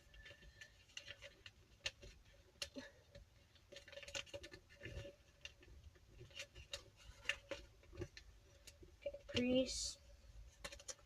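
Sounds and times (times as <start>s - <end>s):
paper rustling and crinkling: 0.0s - 9.7s, 10.5s - 11.0s.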